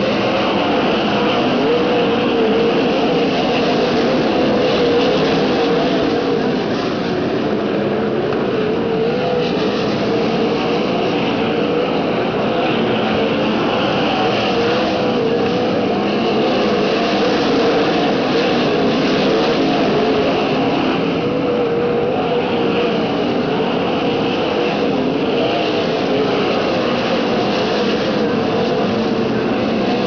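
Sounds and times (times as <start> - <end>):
race car engines circling track: 0.0 - 30.0.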